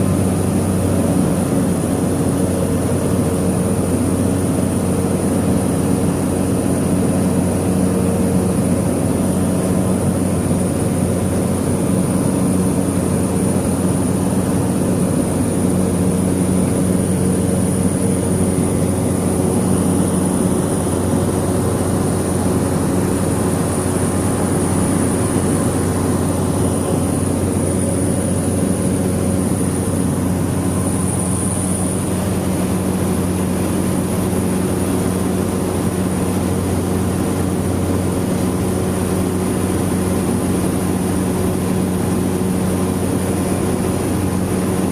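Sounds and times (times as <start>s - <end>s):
turboprop engine drone: 0.0s - 44.9s.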